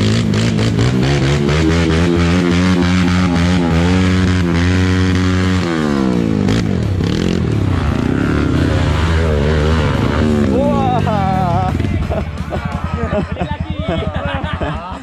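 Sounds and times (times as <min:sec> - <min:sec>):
vehicle engine revving: 0:00.0 - 0:13.6.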